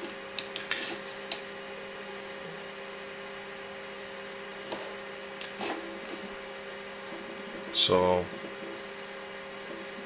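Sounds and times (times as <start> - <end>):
computer and hard disk hum: 0.0 - 10.0.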